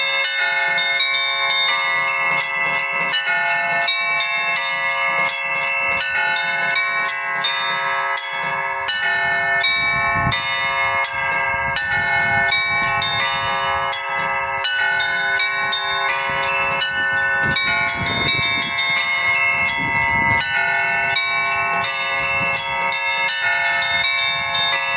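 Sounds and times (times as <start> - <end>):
large bells ringing: 0.0 - 24.9
small bells struck quickly: 0.0 - 24.9.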